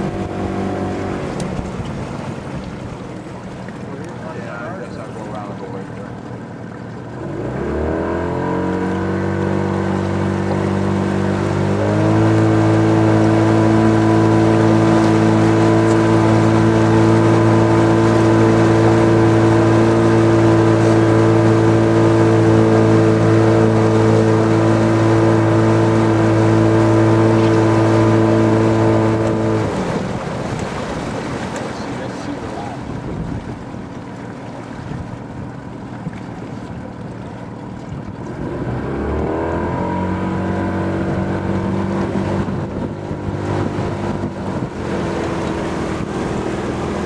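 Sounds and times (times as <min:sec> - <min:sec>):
boat motor accelerating: 0:00.0 - 0:47.0.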